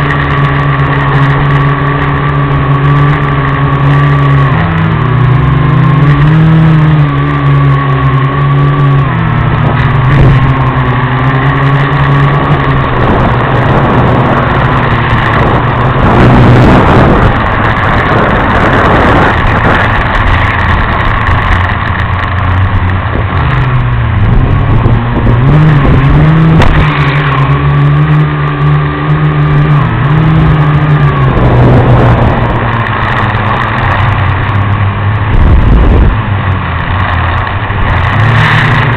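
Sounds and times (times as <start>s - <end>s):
drone propellers buzzing: 0.0s - 38.9s
rushing noise: 0.0s - 38.9s.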